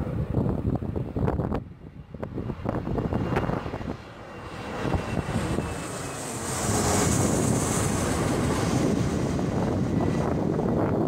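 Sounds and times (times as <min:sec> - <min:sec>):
jet engines rumbling and hissing: 0:00.0 - 0:11.0
wind noise on microphone: 0:00.0 - 0:11.0.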